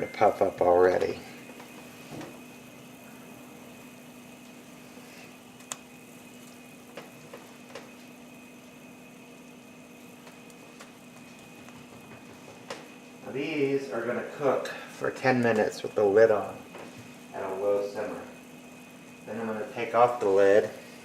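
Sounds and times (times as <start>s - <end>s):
faint constant hum: 0.0s - 21.0s.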